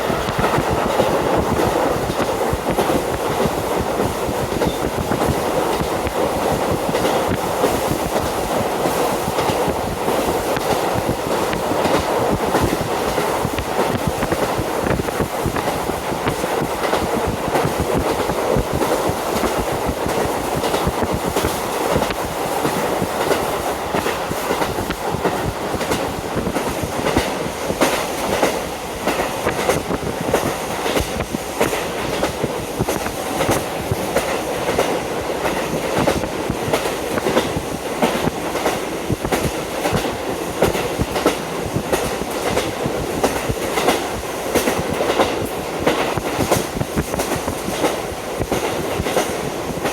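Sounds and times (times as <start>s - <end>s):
train running noise: 0.0s - 49.9s
wind rush through open window: 0.0s - 49.9s.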